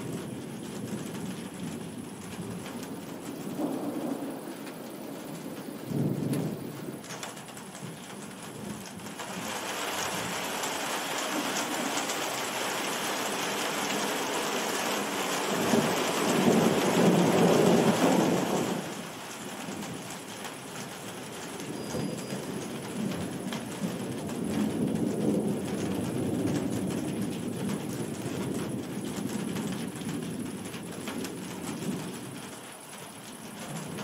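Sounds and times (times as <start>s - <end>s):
rolling thunder: 0.0s - 32.5s
rain hissing: 0.0s - 34.0s.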